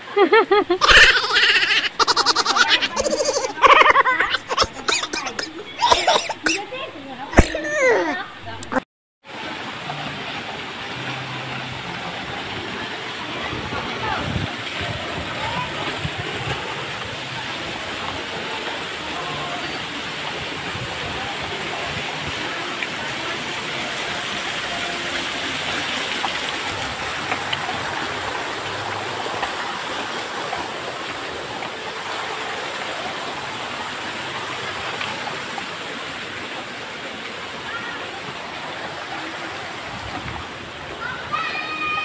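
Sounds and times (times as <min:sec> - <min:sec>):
faint voices: 0:00.0 - 0:42.0
running water rushing: 0:00.0 - 0:42.0.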